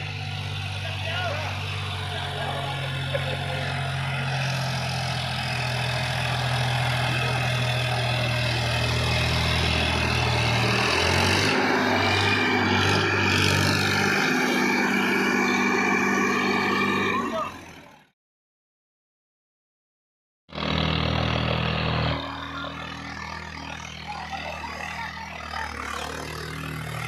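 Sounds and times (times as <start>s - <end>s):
diesel tractor engine running: 0.0s - 18.1s, 20.5s - 27.0s.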